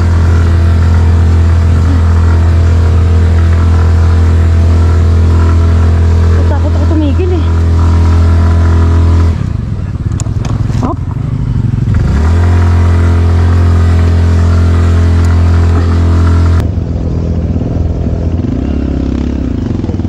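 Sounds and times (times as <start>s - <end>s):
engine clatters: 0.0s - 16.6s
scooter engine revving: 0.0s - 16.8s, 17.4s - 20.0s
motorcycle engine running: 0.0s - 20.0s.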